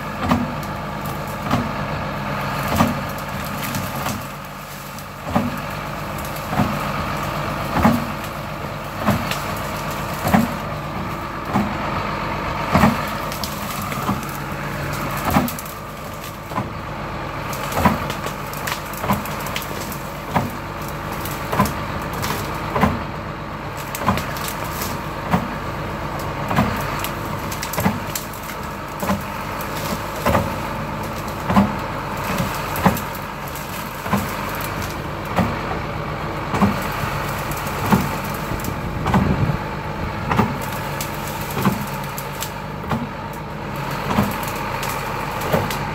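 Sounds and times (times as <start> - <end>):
branches snapping: 0.0 - 45.9
tractor engine running under load: 0.0 - 45.9.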